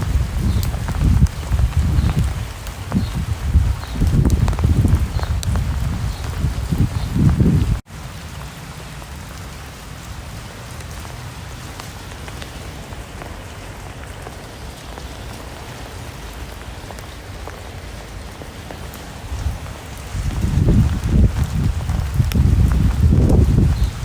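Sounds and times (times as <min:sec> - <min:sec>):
raindrops ticking: 0:00.0 - 0:24.0
steady rain hiss: 0:00.0 - 0:24.0.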